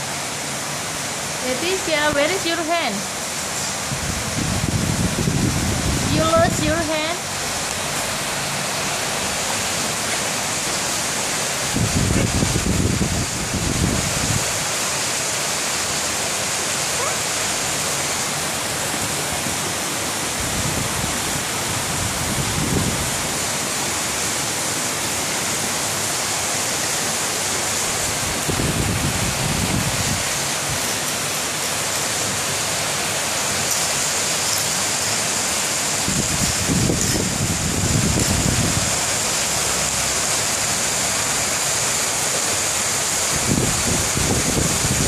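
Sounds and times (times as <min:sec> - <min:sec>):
heavy rain hissing: 0:00.0 - 0:45.0.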